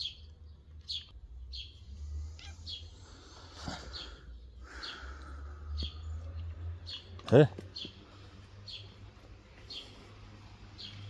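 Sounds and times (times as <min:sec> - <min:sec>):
small bird chirping: 0:00.0 - 0:10.1.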